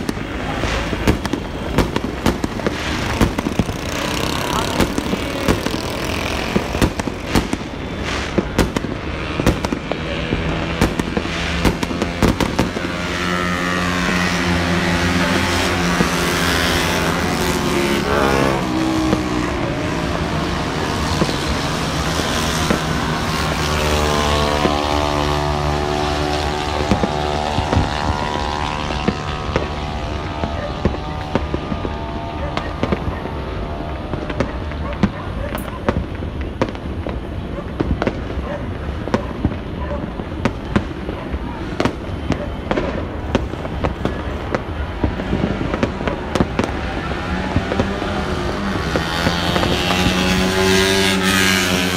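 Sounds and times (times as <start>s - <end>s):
vehicle engine revving: 0.0s - 35.7s, 41.8s - 51.9s
fireworks banging and crackling: 0.0s - 51.9s.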